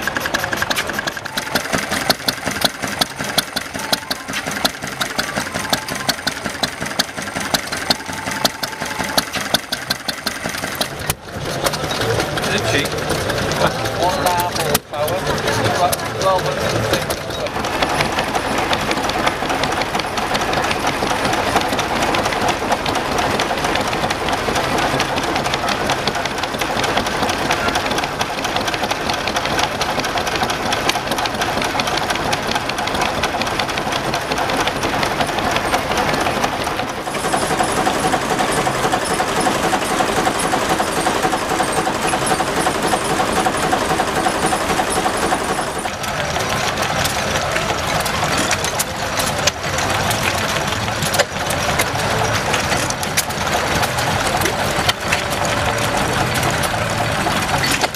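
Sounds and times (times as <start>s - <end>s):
high engine ticking: 0.0s - 57.9s
stationary engine clattering: 0.0s - 57.9s
steady engine tone: 0.0s - 57.9s.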